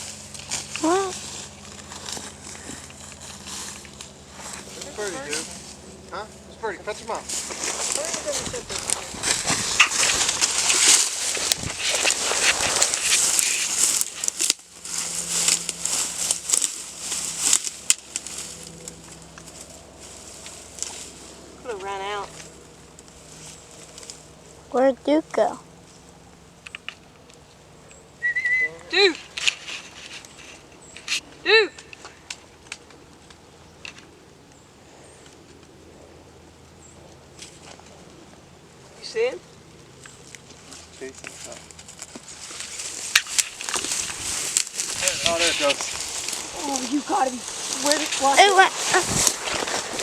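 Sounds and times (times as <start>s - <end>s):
dry grass rustling and crackling: 0.0s - 28.0s, 29.1s - 50.0s.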